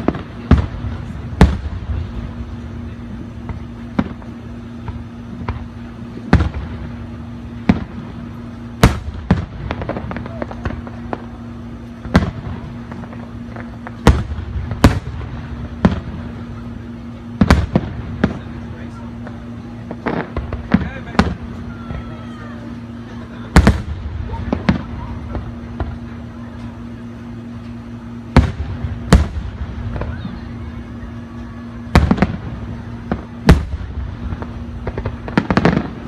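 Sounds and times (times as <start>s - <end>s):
distant fireworks bangs: 0.0s - 36.0s
steady low hum: 0.0s - 36.0s.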